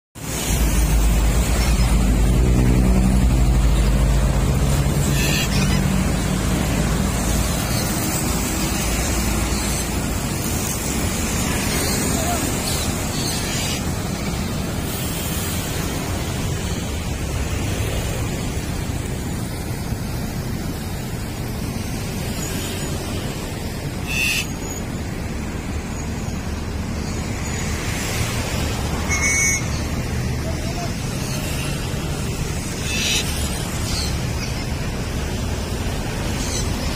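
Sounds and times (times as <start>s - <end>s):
cars and motorcycles passing: 0.2s - 36.9s
heavy vehicle engine hum: 0.2s - 36.9s
traffic rumble: 0.2s - 36.9s.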